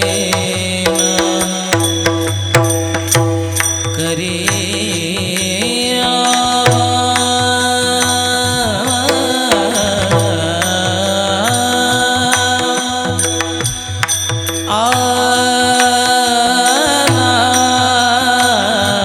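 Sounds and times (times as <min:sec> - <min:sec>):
devotional music chords and melody: 0:00.0 - 0:19.0.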